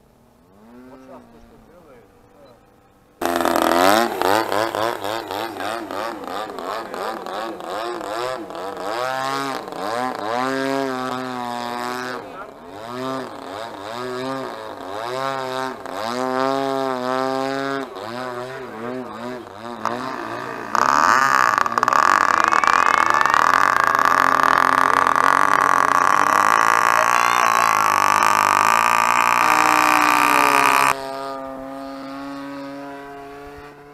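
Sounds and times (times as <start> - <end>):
model plane engine swooping: 3.2 - 33.9.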